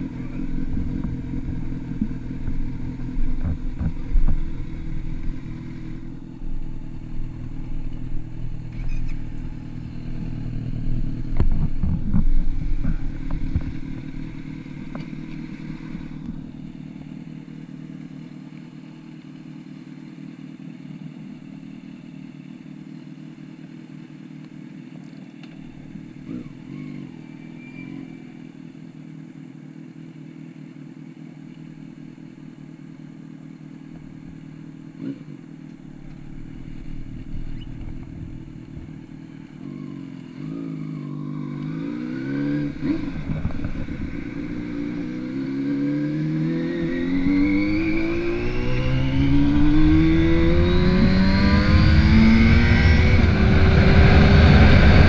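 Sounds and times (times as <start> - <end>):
motorcycle engines idling: 0.0 - 50.9.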